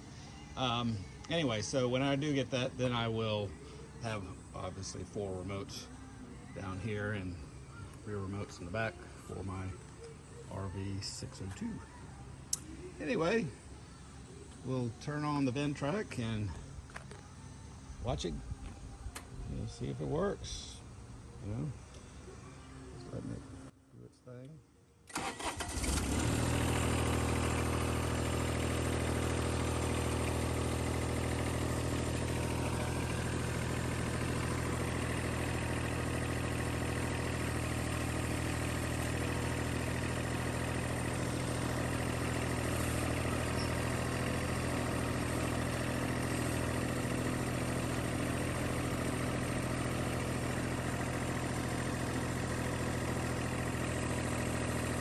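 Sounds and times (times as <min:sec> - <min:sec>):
diesel engine starting and idling: 0:00.0 - 0:17.2, 0:25.0 - 0:55.0.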